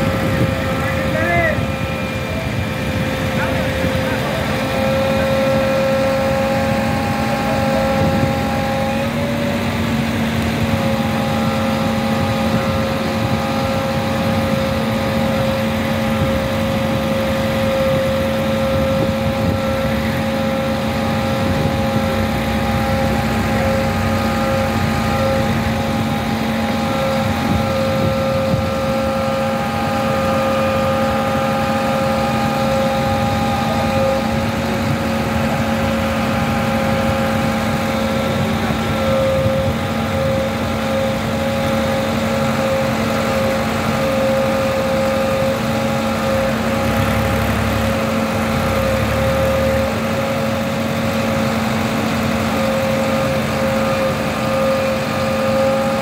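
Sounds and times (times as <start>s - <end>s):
diesel engine running: 0.0s - 56.0s
hydraulic whine: 0.0s - 56.0s.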